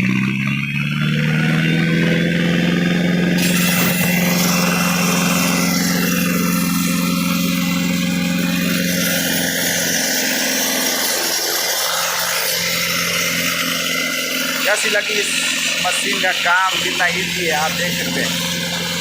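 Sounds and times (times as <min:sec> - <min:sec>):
rock drill running: 0:00.1 - 0:19.0.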